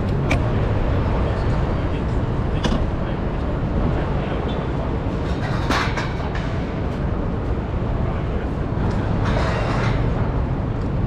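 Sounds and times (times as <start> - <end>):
passing vehicles rumbling: 0.0 - 11.0.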